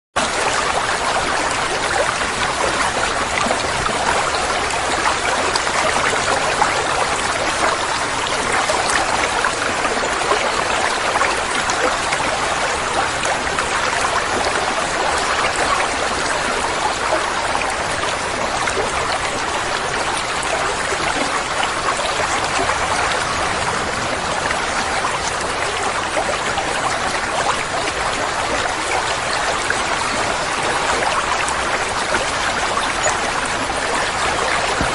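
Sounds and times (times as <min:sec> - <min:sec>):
water trickling into pond: 0:00.2 - 0:34.9.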